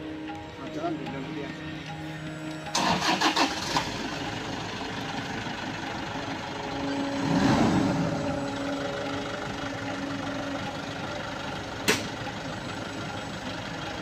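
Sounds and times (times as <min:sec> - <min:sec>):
vehicle engine cranking and running: 0:00.3 - 0:14.0.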